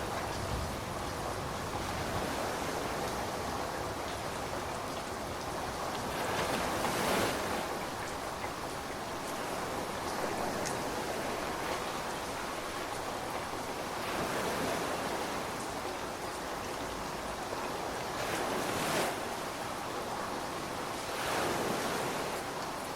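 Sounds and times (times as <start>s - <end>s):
ocean waves breaking: 0.0s - 15.9s, 17.7s - 22.6s
rain hiss: 0.0s - 22.9s.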